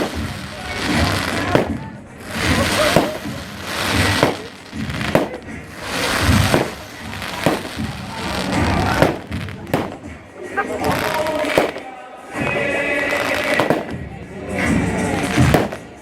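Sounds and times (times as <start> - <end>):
fireworks bangs: 0.0 - 16.0
fireworks crackling hiss: 0.0 - 16.0.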